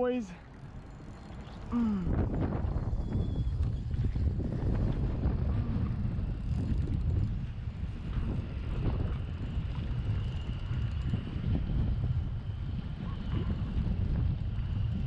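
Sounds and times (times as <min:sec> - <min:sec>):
wind buffeting microphone: 0:00.5 - 0:15.0.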